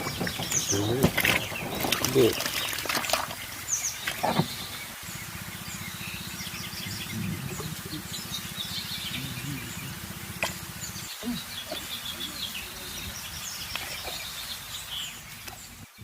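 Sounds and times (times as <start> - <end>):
birds chirping: 0.0 - 16.0
low pulsing drone: 0.0 - 16.0.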